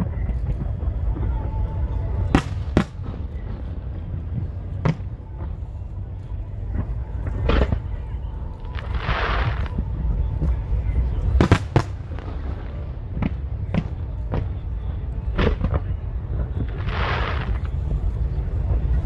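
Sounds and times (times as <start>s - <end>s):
fireworks bangs: 0.0s - 19.0s
low rumble of booming shells: 0.0s - 19.0s.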